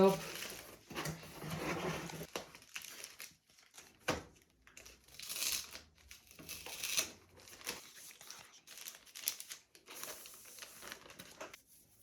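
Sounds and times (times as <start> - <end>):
packaging crinkling and rustling: 0.0 - 11.6.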